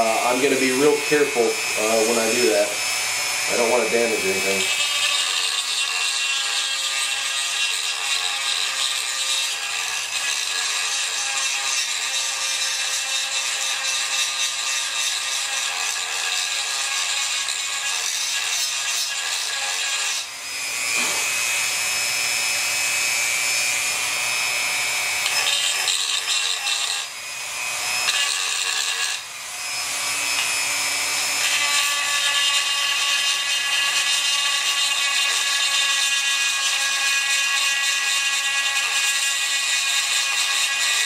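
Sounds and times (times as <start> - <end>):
rotary tool grinding metal: 0.0 - 41.0.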